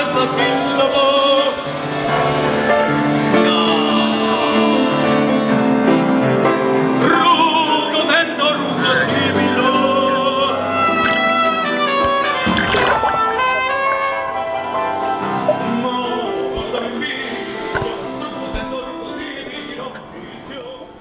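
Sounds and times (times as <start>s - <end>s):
instrumental backing: 0.0s - 21.0s.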